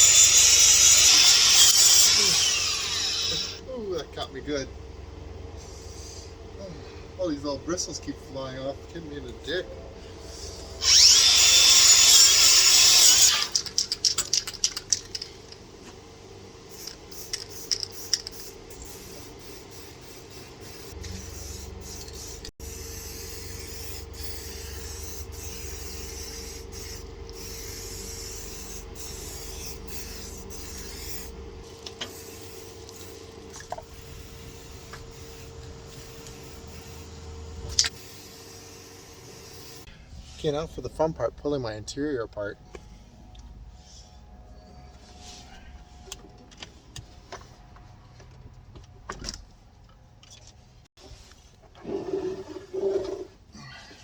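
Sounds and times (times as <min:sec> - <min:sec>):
faint constant hum: 0:00.0 - 0:54.0.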